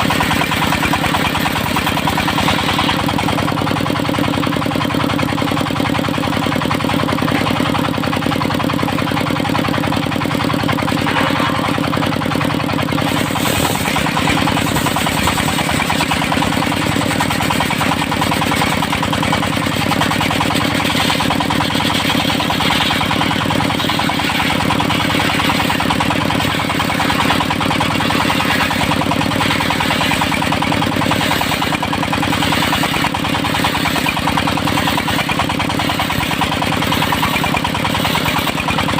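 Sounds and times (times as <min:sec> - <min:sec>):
saw blade cutting wood: 0:00.0 - 0:03.8, 0:09.6 - 0:38.9
sawmill engine running: 0:00.0 - 0:38.9.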